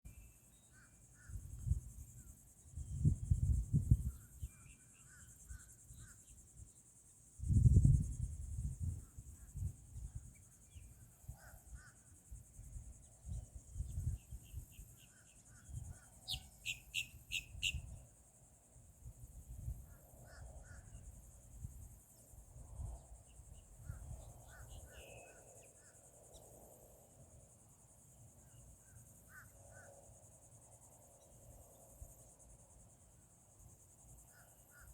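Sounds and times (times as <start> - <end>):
crickets chirping: 0.1 - 34.9.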